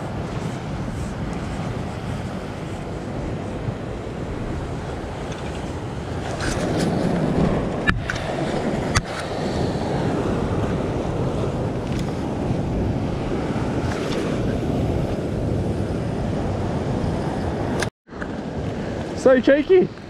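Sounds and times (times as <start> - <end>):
ocean waves washing over rocks: 0.0 - 19.9
wind buffeting microphone: 0.0 - 20.0.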